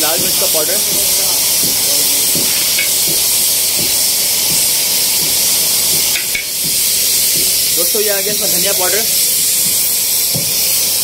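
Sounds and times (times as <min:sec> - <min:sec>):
pot hissing on high flame: 0:00.0 - 0:11.0.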